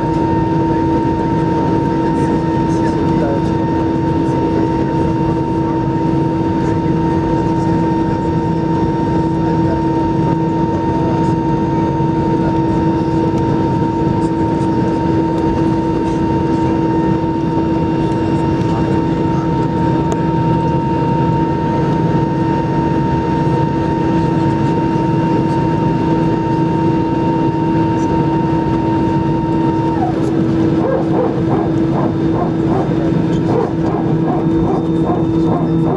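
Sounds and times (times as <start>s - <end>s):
jet engines idling: 0.0s - 35.9s.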